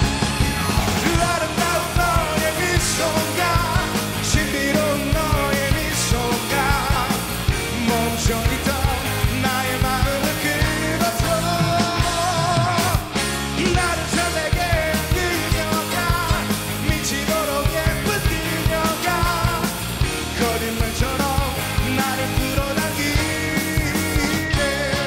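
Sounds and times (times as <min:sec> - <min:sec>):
live rock band: 0:00.0 - 0:25.0
man singing: 0:00.9 - 0:25.0.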